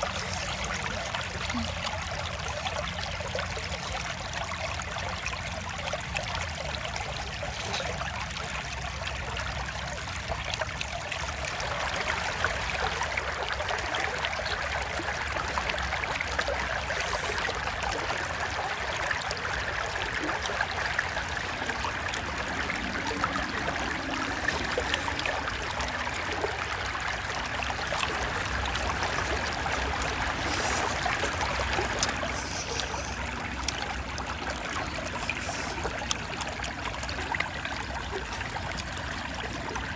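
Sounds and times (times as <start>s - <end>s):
shallow water trickling: 0.0s - 39.9s.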